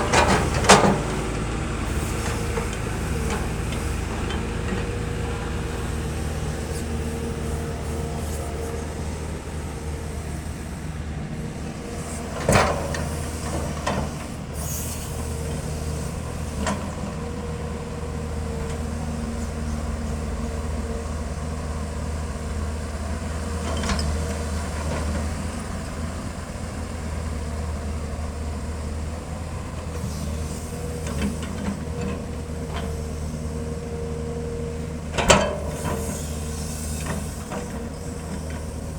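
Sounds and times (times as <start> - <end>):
hydraulic whine: 0.0 - 22.0, 29.0 - 38.9
excavator diesel engine running: 0.0 - 38.9.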